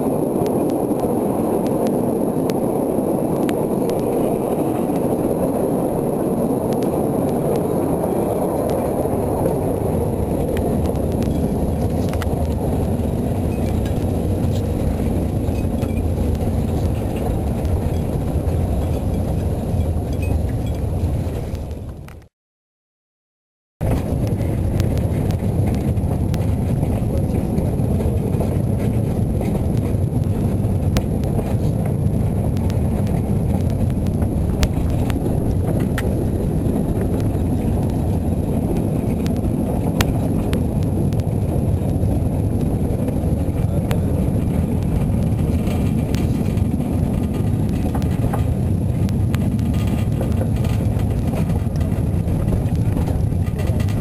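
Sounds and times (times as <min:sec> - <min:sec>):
train wagon rumbling on track: 0:00.0 - 0:22.3, 0:23.8 - 0:54.0.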